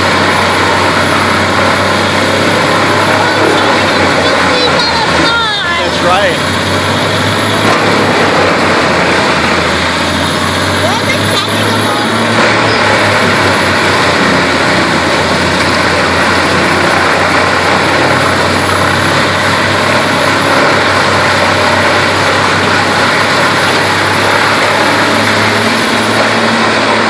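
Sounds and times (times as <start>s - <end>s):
wood chipper chewing up tree: 0.0s - 27.0s.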